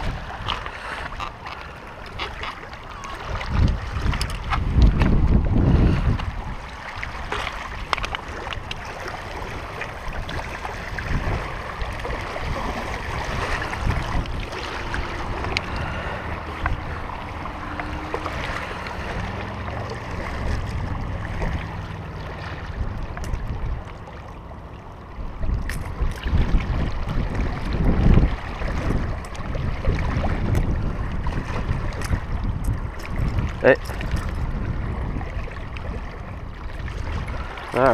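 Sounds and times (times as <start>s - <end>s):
water lapping on rocky shore: 0.0s - 37.9s
wind buffeting microphone: 0.0s - 37.9s.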